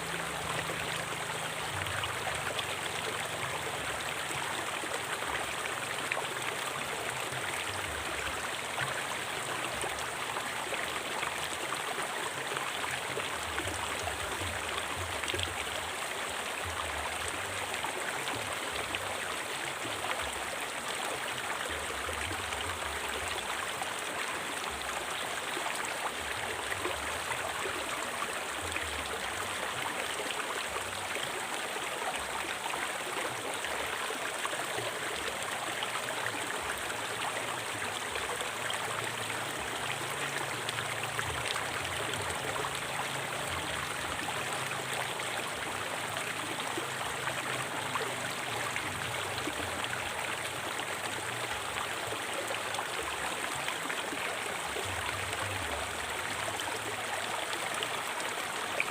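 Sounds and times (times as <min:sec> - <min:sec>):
river water babbling over stones: 0:00.0 - 0:58.9.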